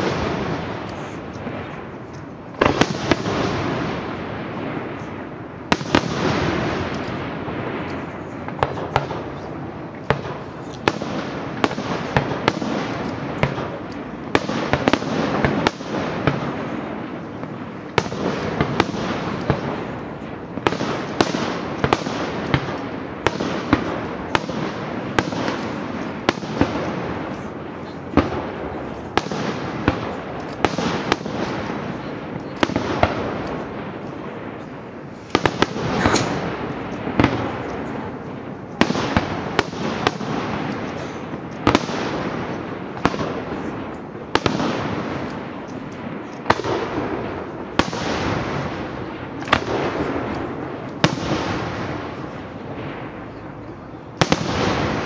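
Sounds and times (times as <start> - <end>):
fireworks bursting with sharp bangs: 0.0 - 55.0
fireworks crackle and rumble: 0.0 - 55.0.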